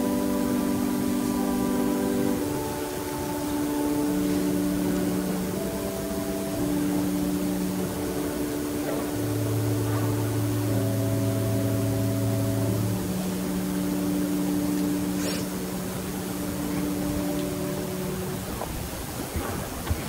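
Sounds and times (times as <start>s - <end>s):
low bass note: 0.0s - 18.6s
sustained keyboard chords: 0.0s - 20.0s.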